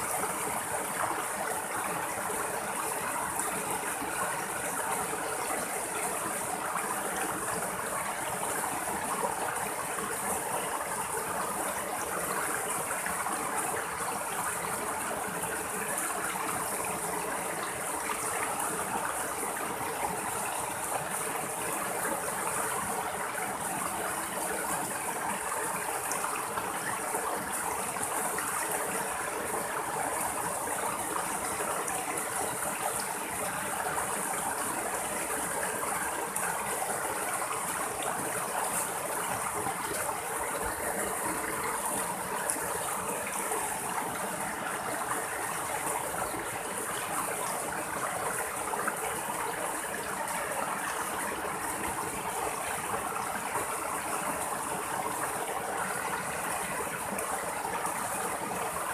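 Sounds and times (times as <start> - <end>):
stream splashing over rocks: 0.0 - 58.9.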